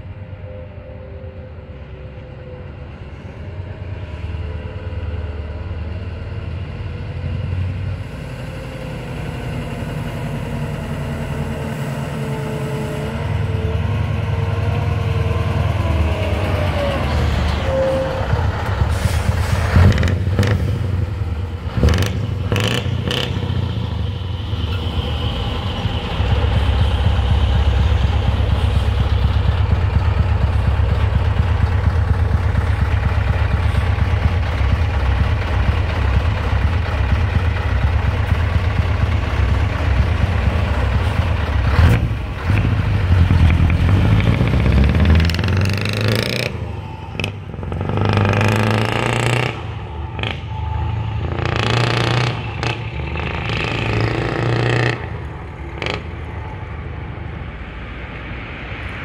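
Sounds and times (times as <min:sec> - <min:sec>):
truck engine exhaust rumble: 0:00.0 - 0:59.0.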